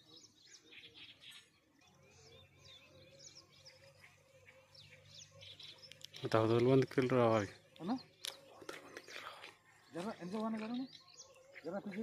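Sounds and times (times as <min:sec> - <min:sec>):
birdsong chirps and calls: 0:00.0 - 0:12.0.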